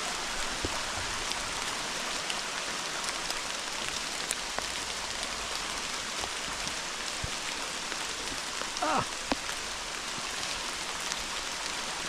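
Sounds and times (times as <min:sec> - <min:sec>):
hard rain on leaves: 0:00.0 - 0:12.0
raindrops ticking close by: 0:00.0 - 0:12.0.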